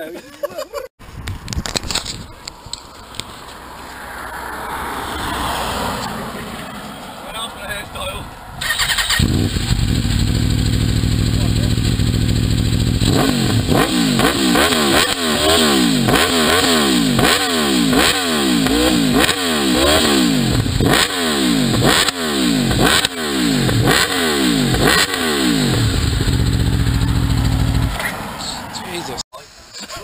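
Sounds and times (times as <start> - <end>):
motorcycle engine revving: 1.9 - 28.6.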